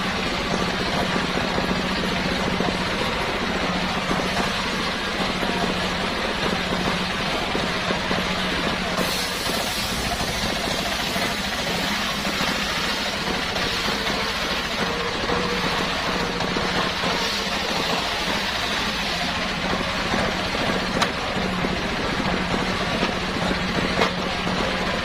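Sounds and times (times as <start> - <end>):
circular sawmill running: 0.0 - 25.0.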